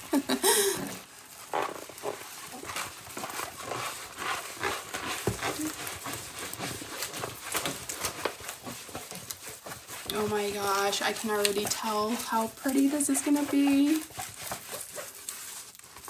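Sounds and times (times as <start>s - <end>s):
plastic crinkling and rustling: 0.0s - 16.0s.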